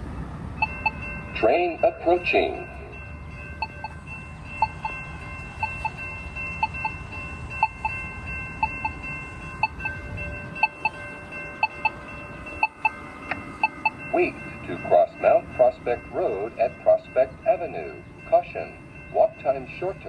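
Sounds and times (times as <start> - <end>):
pedestrian signal ticking: 0.0 - 20.0.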